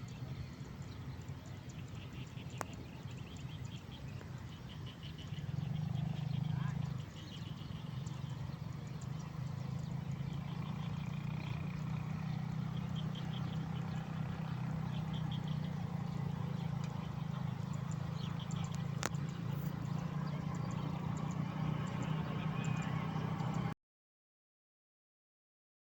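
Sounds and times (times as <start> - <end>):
animals chirping: 0.8 - 23.7.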